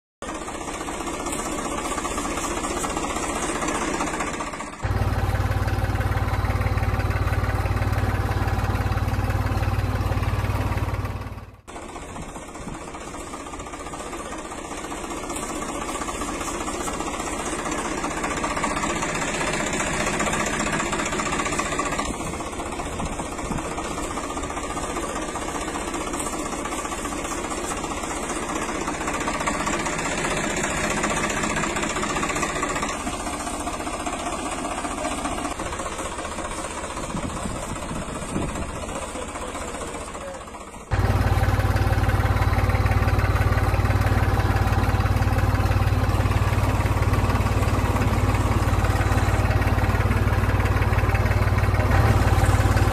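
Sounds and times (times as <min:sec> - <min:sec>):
small engine chugging: 0:00.2 - 0:52.9.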